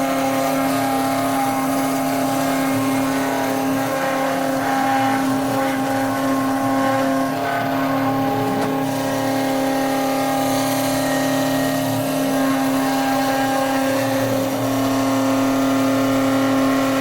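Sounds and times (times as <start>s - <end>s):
router spindle steady tone: 0.0s - 17.0s.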